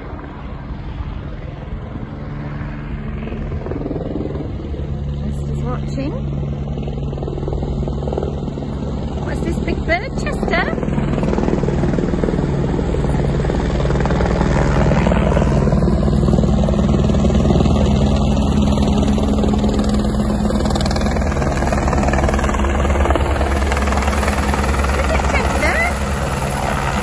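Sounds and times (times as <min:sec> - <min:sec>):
helicopter rotor and engine: 0:00.0 - 0:27.0.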